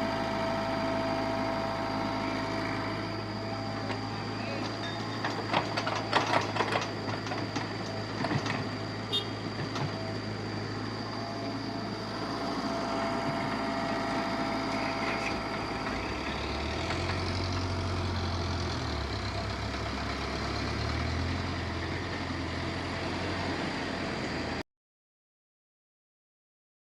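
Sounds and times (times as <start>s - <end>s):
engine running: 0.0s - 24.6s.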